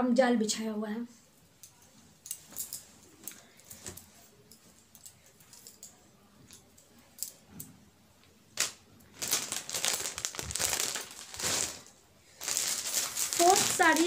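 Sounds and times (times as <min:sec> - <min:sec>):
fabric rustling and clicking: 0:01.5 - 0:07.7, 0:08.6 - 0:14.0.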